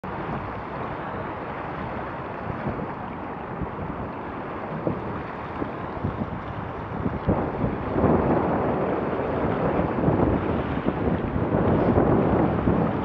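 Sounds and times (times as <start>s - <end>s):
water slapping a boat hull: 0.0s - 13.0s
wind buffeting microphone: 0.0s - 13.0s.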